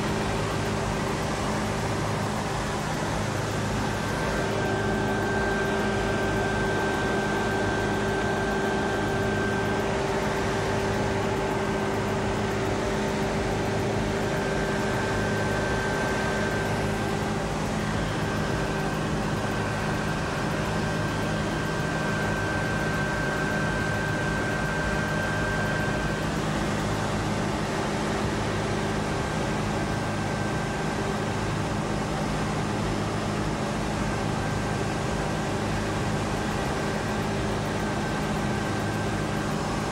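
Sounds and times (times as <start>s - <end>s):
humming mechanical drone: 0.0s - 39.9s.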